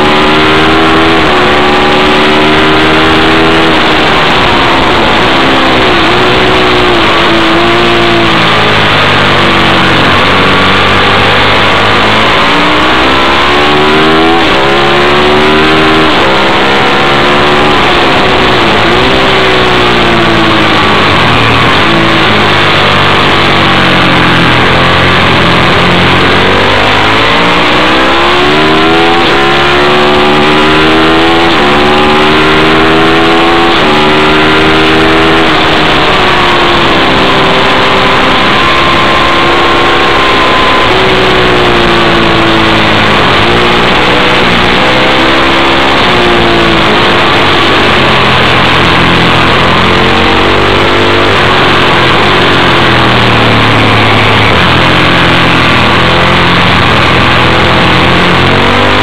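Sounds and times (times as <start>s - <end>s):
motorcycle engine revving hard: 0.0s - 59.0s.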